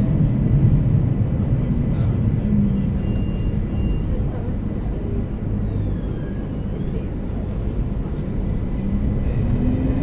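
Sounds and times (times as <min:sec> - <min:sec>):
tram wheels rumbling on rails: 0:00.0 - 0:10.0.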